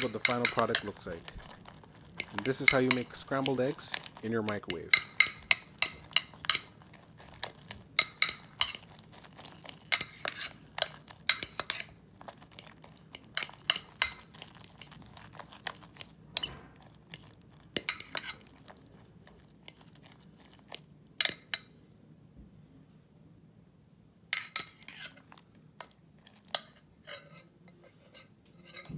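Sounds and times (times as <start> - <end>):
cutlery clinking against a dish: 0.0 - 21.7, 24.4 - 28.9.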